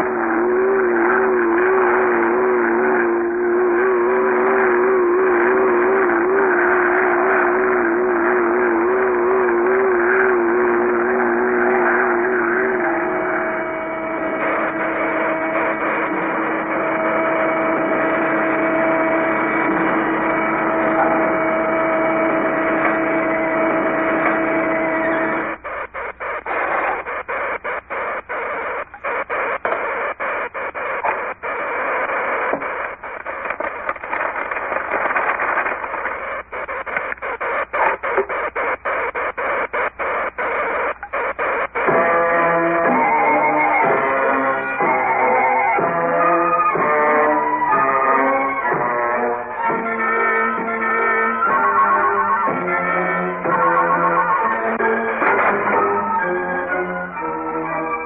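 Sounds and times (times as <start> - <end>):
old cartoon music: 0.0 - 37.4, 38.0 - 58.0.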